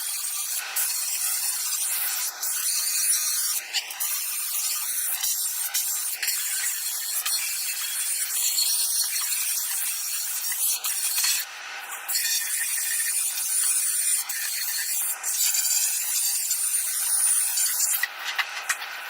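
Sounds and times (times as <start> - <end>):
sandpaper rasping on metal: 0.0 - 11.4, 12.1 - 18.1.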